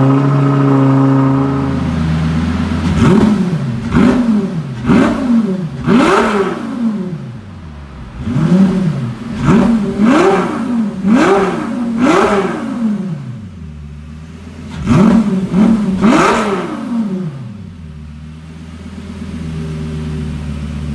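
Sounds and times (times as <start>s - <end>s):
sports car engine revving: 0.0s - 20.9s.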